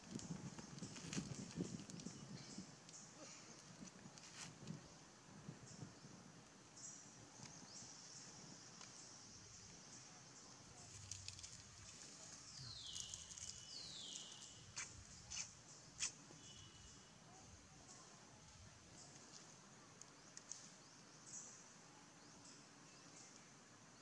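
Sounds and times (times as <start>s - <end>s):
steady high-pitched hiss: 0.0s - 24.0s.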